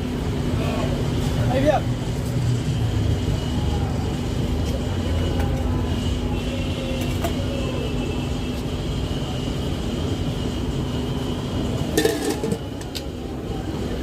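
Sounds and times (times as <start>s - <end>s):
steady traffic noise: 0.0s - 14.0s.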